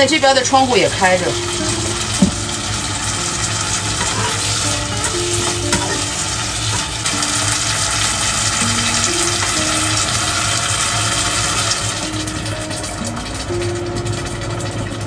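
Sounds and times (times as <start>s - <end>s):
food sizzling in a pot: 0.0s - 15.0s
soft background music: 0.0s - 15.0s.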